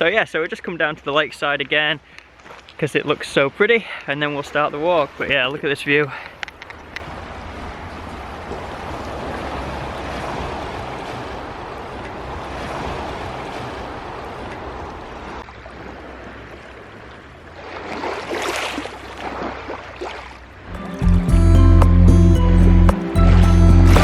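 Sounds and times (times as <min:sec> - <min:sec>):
small waves lapping: 0:00.0 - 0:21.2
water splashing: 0:00.0 - 0:22.0, 0:22.7 - 0:24.0.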